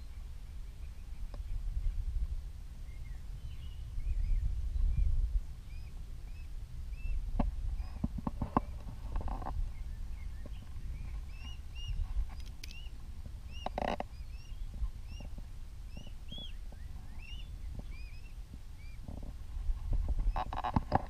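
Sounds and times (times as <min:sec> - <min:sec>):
cygnets peeping: 0:02.8 - 0:19.4, 0:20.1 - 0:21.0.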